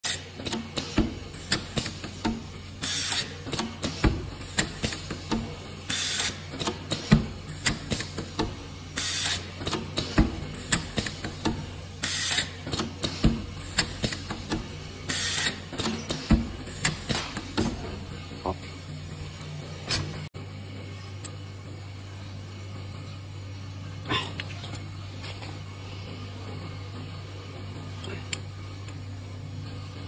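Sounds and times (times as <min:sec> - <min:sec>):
steady low hum: 0:00.1 - 0:30.0.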